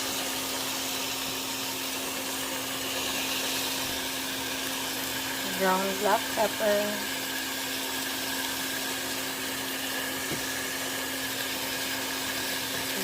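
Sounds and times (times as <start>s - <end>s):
fan motor whirring: 0.0s - 13.0s.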